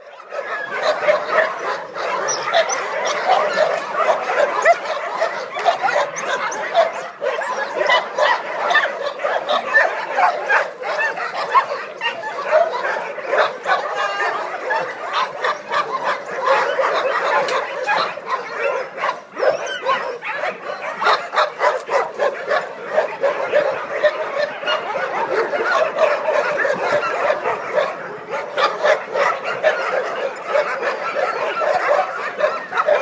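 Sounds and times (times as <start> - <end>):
many dogs barking: 0.0 - 33.0.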